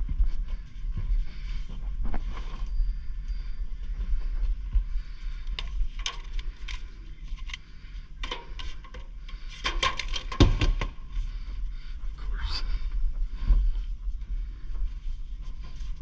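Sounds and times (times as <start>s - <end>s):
steady low rumble: 0.0s - 9.4s, 10.9s - 16.0s.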